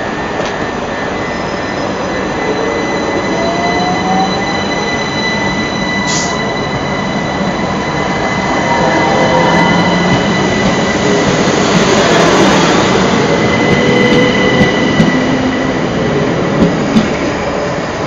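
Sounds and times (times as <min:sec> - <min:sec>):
train passing: 0:00.0 - 0:18.0.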